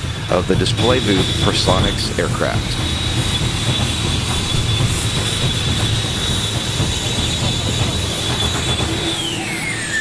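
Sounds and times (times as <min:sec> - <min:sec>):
motor whining: 0:00.0 - 0:10.0.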